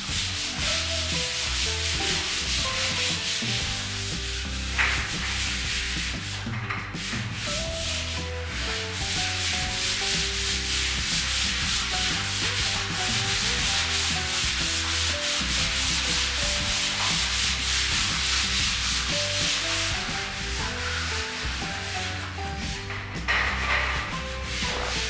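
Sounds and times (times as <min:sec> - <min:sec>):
background music with bass line: 0:00.0 - 0:25.0
rhythmic pulsing hiss: 0:00.0 - 0:25.0.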